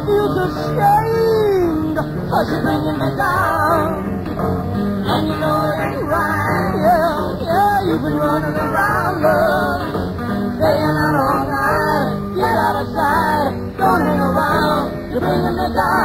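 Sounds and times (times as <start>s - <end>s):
person singing: 0.0s - 4.2s, 5.0s - 16.0s.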